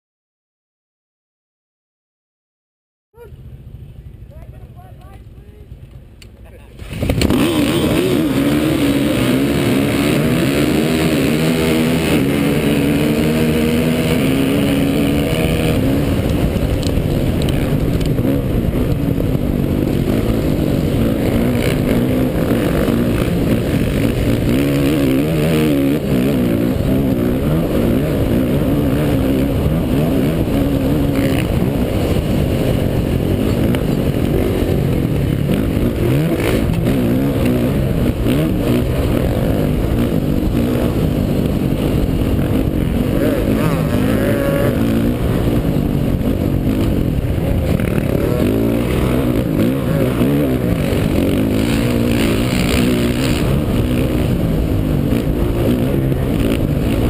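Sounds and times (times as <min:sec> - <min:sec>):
dirt bike engine revving: 0:06.8 - 0:57.0.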